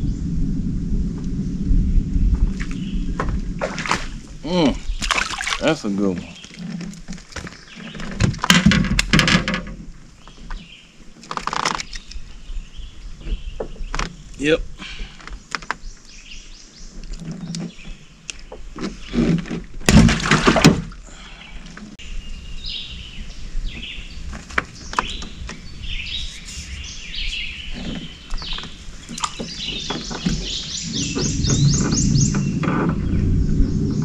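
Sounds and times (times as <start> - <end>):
birds chirping: 1.2 - 8.4, 10.1 - 19.3, 21.1 - 34.0.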